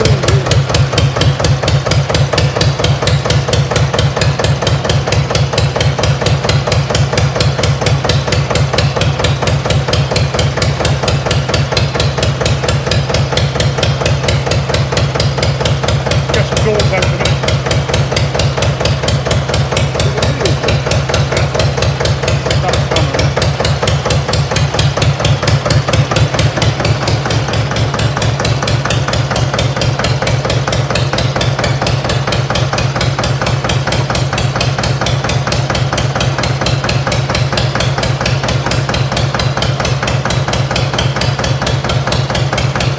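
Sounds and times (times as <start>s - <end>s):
diesel engine knocking: 0.0s - 42.9s.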